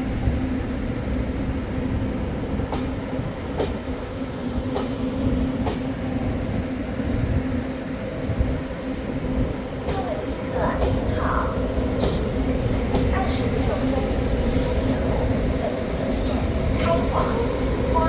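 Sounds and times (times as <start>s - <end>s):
train rumble and hum: 0.0s - 18.0s.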